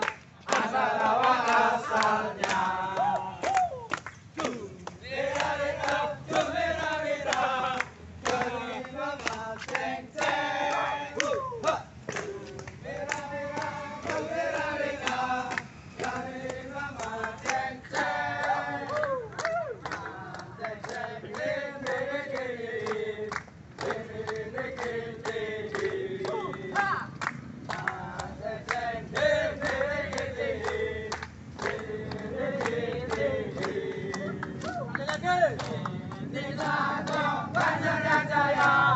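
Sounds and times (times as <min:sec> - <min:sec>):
group singing in unison: 0:00.0 - 0:03.5, 0:04.4 - 0:34.9, 0:35.6 - 0:38.9
hand clapping: 0:00.0 - 0:06.5, 0:07.2 - 0:38.8.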